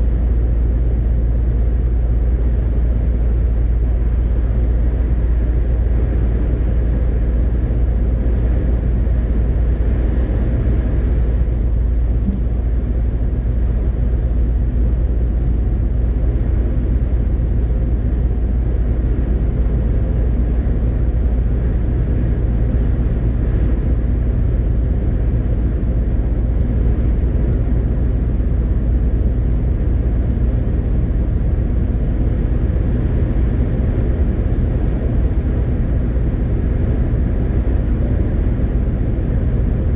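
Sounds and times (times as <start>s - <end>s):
road and tyre noise: 0.0s - 39.9s
truck diesel engine droning: 0.0s - 39.9s.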